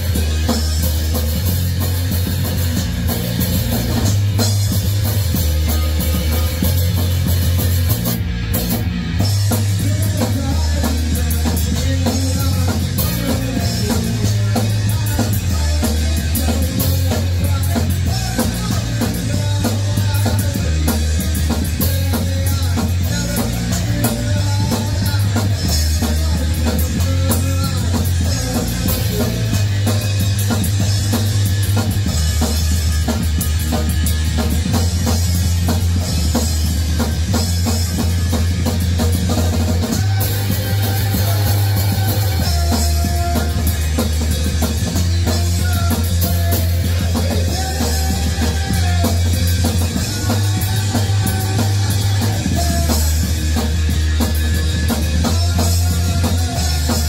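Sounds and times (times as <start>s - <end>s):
bass line: 0.0s - 57.0s
drum kit: 0.0s - 57.0s
electric guitar: 0.0s - 57.0s.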